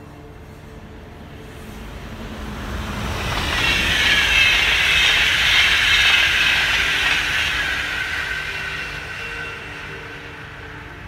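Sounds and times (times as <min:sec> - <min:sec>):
passenger train rushing past: 0:00.0 - 0:11.0.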